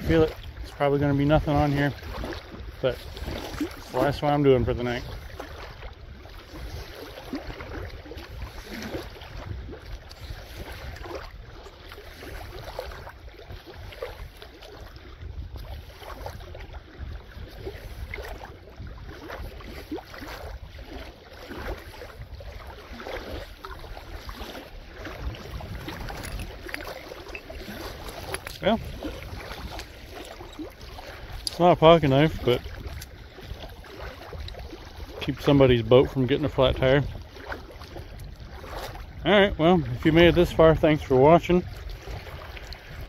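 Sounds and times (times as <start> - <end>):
wind on microphone: 0.0 - 43.0.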